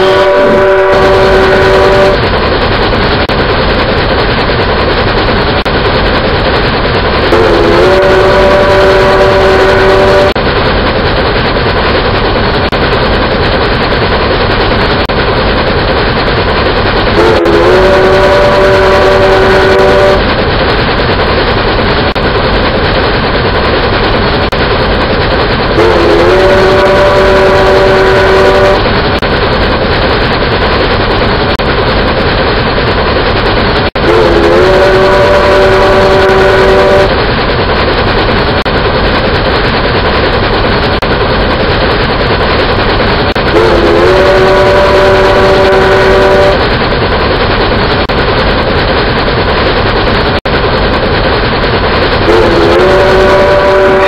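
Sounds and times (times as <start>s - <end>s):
rail noise rushing: 0.0s - 54.0s.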